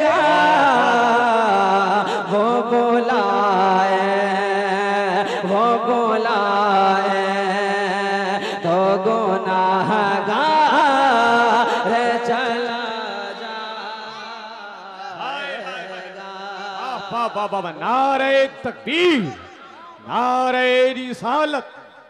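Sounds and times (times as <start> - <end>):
man singing devotional song: 0.0 - 21.9.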